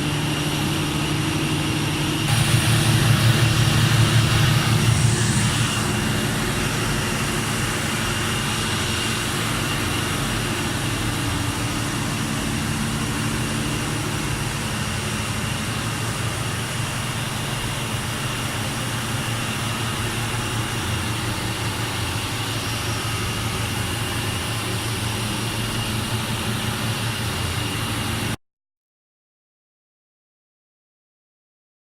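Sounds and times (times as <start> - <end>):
diesel generator rumble: 0.0 - 28.4
thin steady whine: 0.0 - 28.4.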